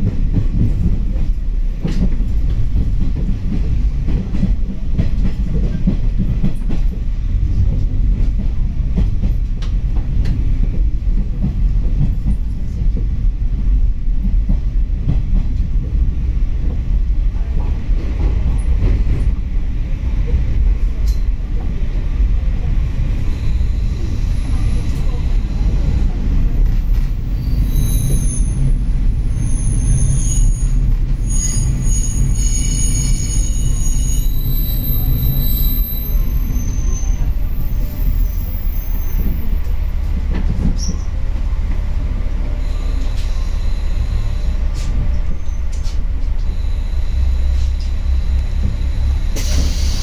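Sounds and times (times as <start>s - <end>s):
train low rumble: 0.0s - 50.0s.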